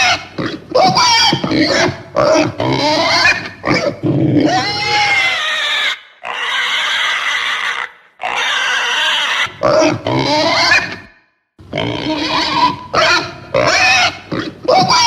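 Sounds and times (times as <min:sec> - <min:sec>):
pig squealing: 0:00.0 - 0:15.0.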